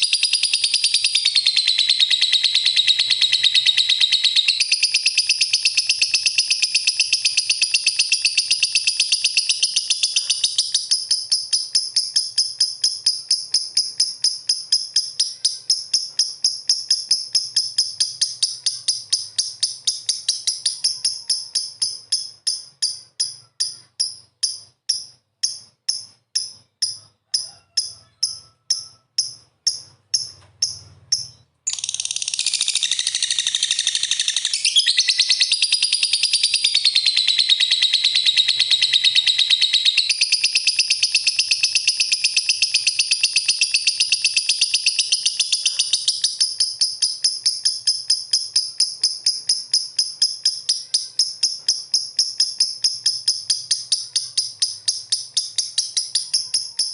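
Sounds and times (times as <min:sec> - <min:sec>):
lovebird chirping: 0:00.0 - 0:56.9.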